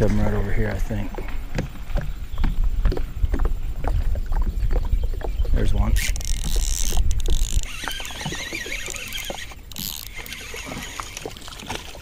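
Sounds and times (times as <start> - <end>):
water splashing: 0.0 - 12.0
wind on microphone: 0.0 - 12.0.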